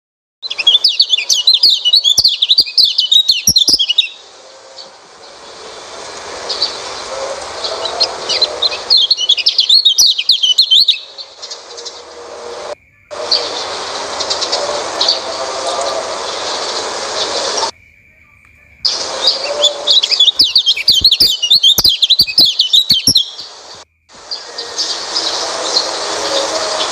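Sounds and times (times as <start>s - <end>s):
bird warbling twitter: 0.4s - 17.7s, 18.6s - 26.9s
soft bird chirping: 0.4s - 26.6s
background hiss: 0.5s - 26.9s.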